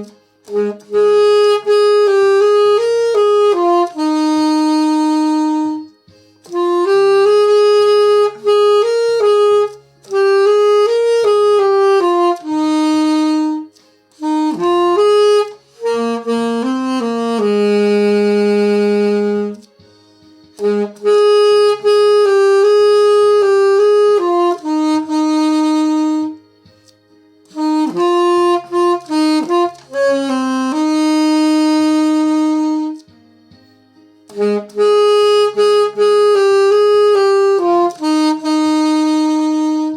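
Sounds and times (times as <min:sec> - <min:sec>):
quiet backing line: 0:00.0 - 0:39.9
saxophone slow melody: 0:00.0 - 0:39.9.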